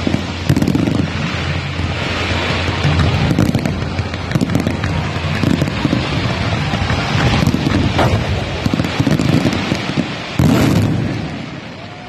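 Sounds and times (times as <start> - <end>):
fireworks bursts rumbling: 0.0 - 12.0
fireworks crackling: 0.0 - 12.0.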